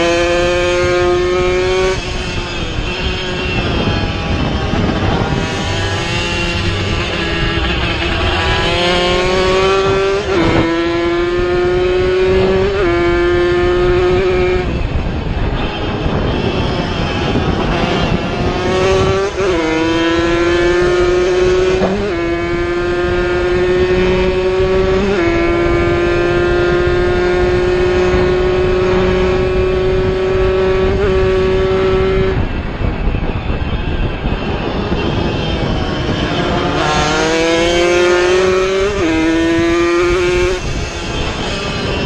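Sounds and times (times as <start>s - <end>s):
two-stroke motorcycle engine revving: 0.0s - 42.0s.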